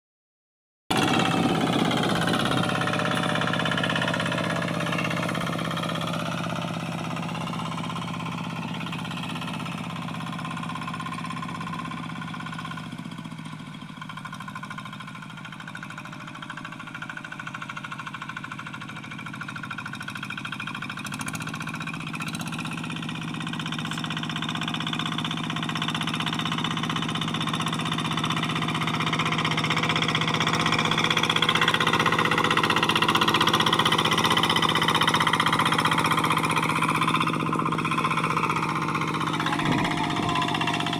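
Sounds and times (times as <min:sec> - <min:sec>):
diesel tractor engine running: 0:00.9 - 0:40.9.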